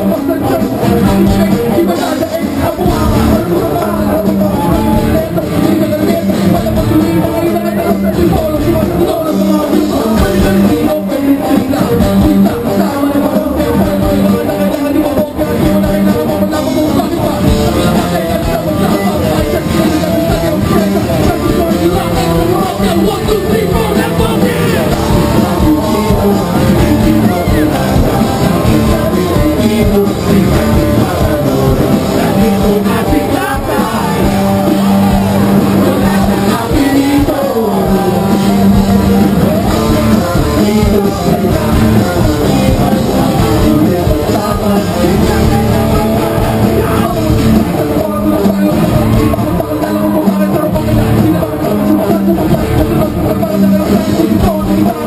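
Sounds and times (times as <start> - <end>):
lead vocalist singing: 0.0 - 55.0
rock band playing live: 0.0 - 55.0.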